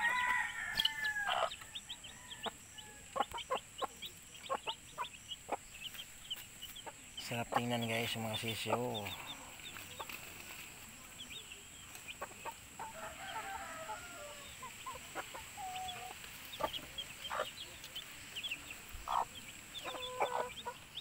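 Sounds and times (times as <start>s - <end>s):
hen clucking: 0.0s - 10.4s, 11.2s - 21.0s
chicks peeping: 0.0s - 21.0s.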